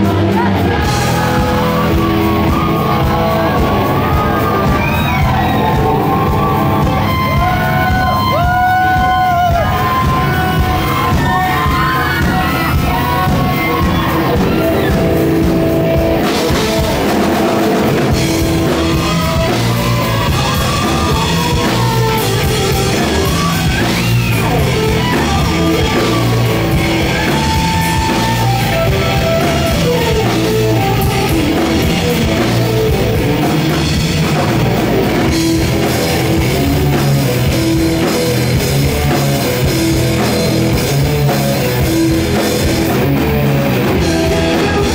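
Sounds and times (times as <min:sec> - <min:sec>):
live rock band playing: 0:00.0 - 0:44.9.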